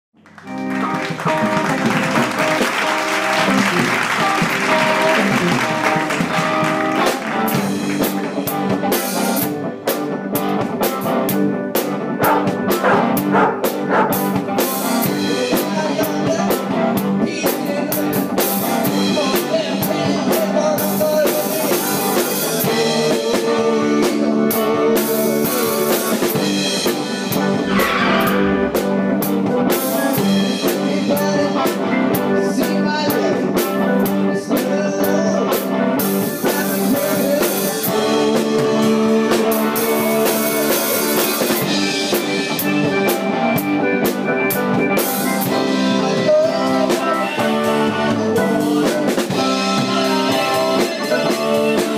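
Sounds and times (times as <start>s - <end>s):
drum kit: 0.2s - 51.9s
electric guitars: 0.2s - 51.9s.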